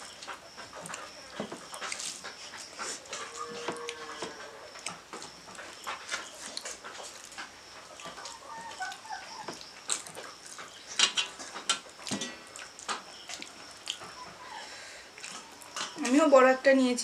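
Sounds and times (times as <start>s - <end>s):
fingers mixing food on plates: 0.0s - 14.5s, 15.1s - 16.4s.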